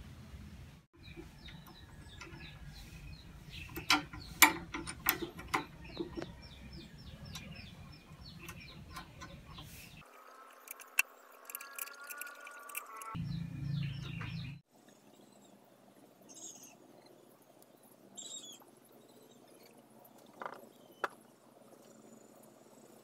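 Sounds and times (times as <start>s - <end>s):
birds chirping: 1.0s - 23.0s.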